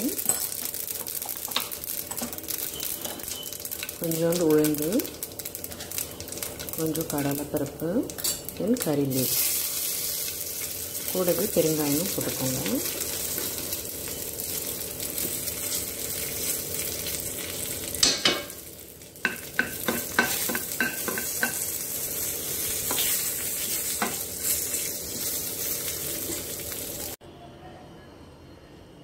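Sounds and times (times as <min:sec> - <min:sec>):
spices sizzling in hot oil: 0:00.0 - 0:27.2.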